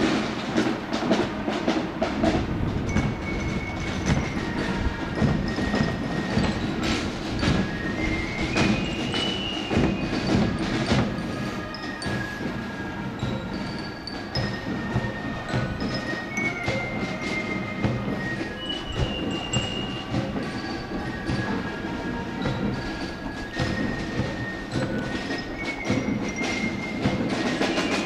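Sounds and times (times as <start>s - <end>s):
marching drums beating: 0.0s - 28.0s
thin high held tones: 2.9s - 28.0s.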